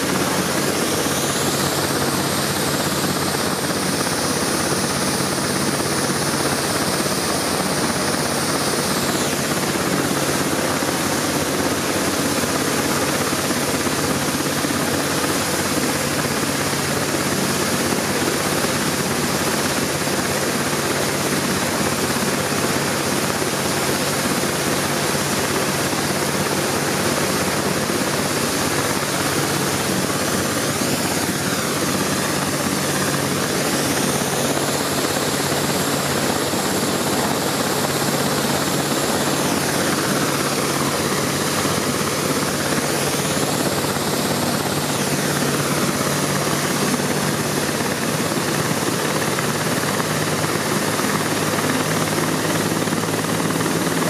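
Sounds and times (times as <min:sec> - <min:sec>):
helicopter rotor noise: 0:00.0 - 0:54.0
helicopter turbine whine: 0:00.0 - 0:54.0.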